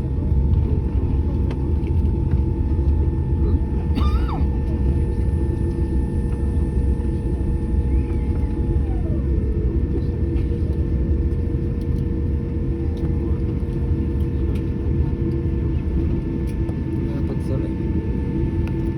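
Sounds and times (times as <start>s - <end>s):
aircraft cabin rumble: 0.0s - 18.9s
faint engine whines: 0.0s - 18.9s.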